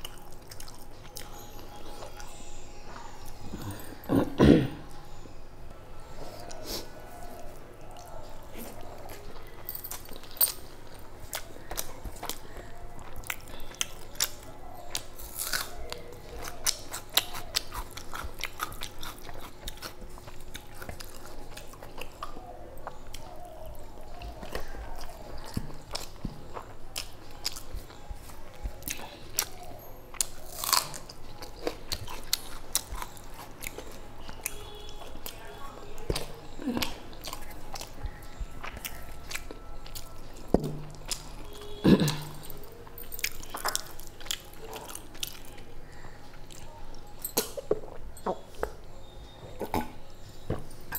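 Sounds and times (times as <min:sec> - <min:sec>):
chewing and mouth smacks: 0:00.0 - 0:01.4, 0:07.3 - 0:50.9.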